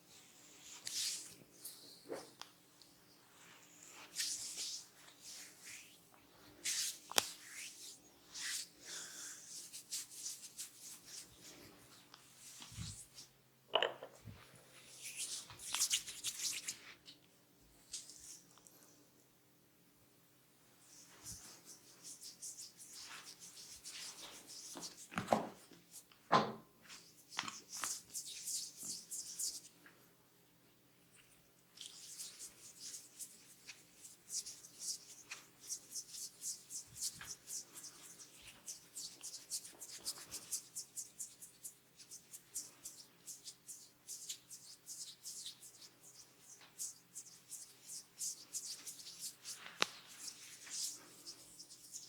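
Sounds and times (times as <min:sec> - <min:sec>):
hands rubbing skin and hair: 0:00.4 - 0:02.4, 0:03.4 - 0:13.3, 0:14.3 - 0:17.1, 0:20.9 - 0:26.1, 0:26.9 - 0:29.8, 0:31.2 - 0:52.0.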